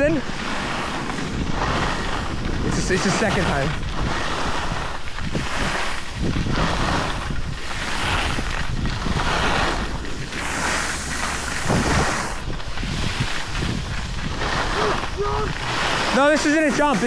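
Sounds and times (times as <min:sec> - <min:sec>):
skis hissing on snow: 0:00.0 - 0:17.0
wind rushing over microphone: 0:00.0 - 0:17.0.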